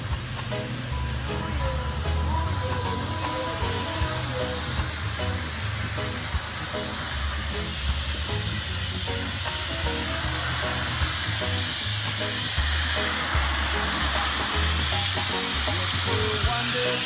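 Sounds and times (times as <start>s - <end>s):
background music with bass line: 0.0s - 17.0s
steam lance hissing: 0.0s - 17.0s.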